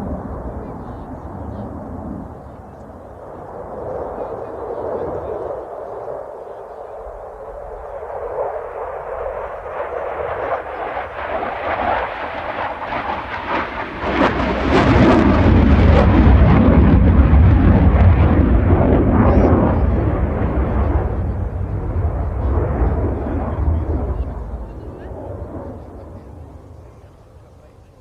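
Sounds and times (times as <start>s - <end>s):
fighter jet engine roaring: 0.0s - 27.9s.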